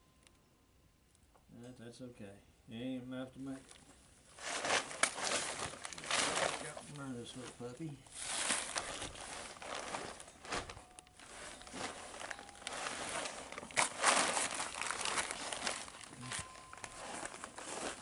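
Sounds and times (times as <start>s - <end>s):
rustling and scraping handling noises: 3.4s - 18.0s.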